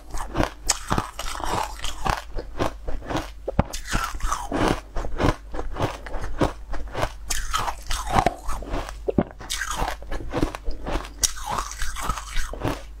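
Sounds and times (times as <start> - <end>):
crunching and chewing ice: 0.0 - 13.0.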